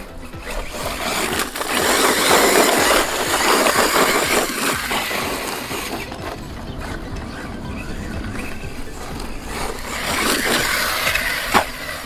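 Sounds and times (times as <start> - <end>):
faint high motor whine: 0.0 - 12.0
tyres churning dirt and gravel: 0.0 - 12.0.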